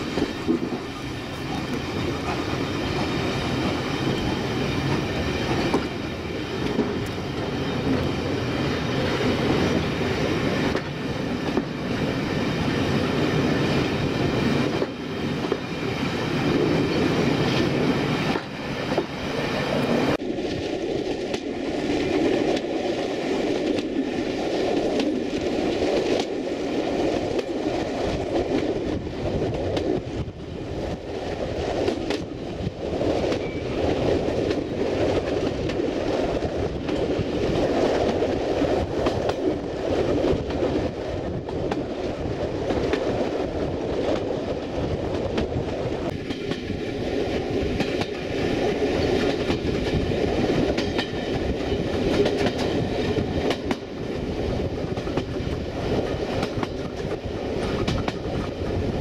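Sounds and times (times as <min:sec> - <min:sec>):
rail joint clicks: 0:00.0 - 0:59.0
train wheels rumbling on rail: 0:00.0 - 0:59.0.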